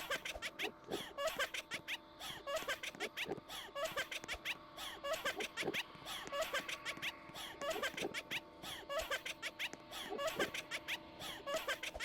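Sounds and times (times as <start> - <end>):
quick squeaky chirps and scratches: 0.0 - 12.0.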